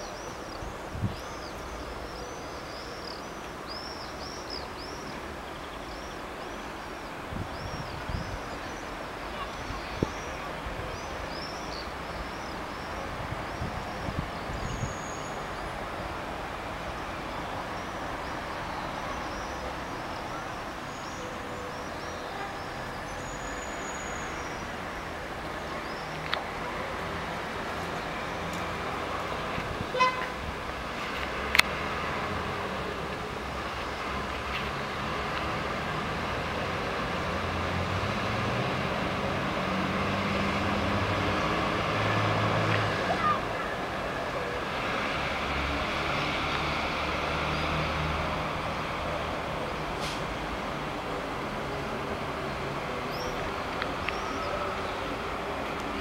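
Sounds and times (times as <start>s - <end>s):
distant road traffic rumble: 0.0s - 56.0s.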